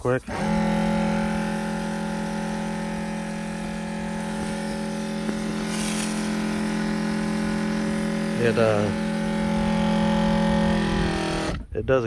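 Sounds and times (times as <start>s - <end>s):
pump humming: 0.1s - 11.7s.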